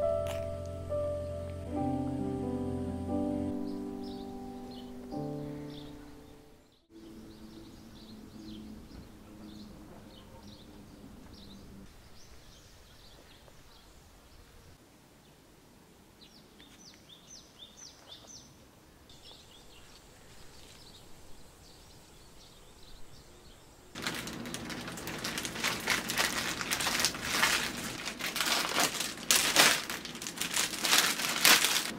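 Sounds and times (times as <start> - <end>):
faint outdoor background: 0.0 - 31.9
small birds chirping: 3.0 - 15.4, 16.2 - 31.9.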